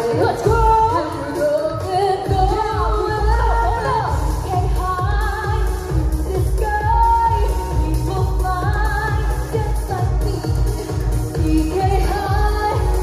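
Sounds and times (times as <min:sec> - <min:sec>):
steady drum beat: 0:00.0 - 0:13.0
woman singing pop song: 0:00.0 - 0:13.0.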